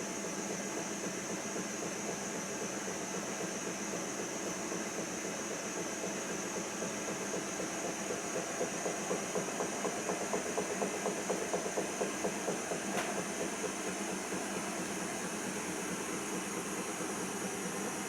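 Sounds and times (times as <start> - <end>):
washing machine hum: 0.0 - 18.0
washing machine rhythmic clacking: 0.0 - 18.0.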